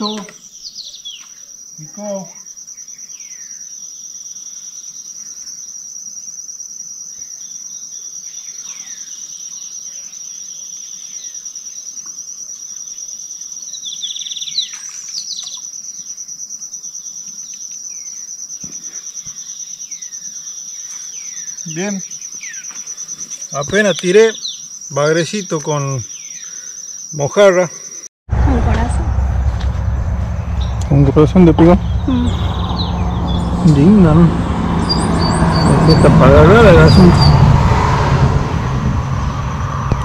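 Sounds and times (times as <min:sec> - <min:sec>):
bird chirps: 0:00.0 - 0:05.8, 0:07.1 - 0:16.3, 0:16.9 - 0:28.1, 0:30.4 - 0:37.4
insects trilling: 0:00.0 - 0:28.1, 0:28.7 - 0:40.0.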